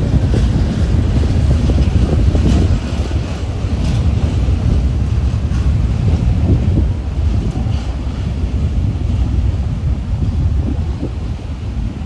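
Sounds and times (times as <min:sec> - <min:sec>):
train rumbling over bridge: 0:00.0 - 0:12.0
wind buffeting microphone: 0:00.0 - 0:12.0.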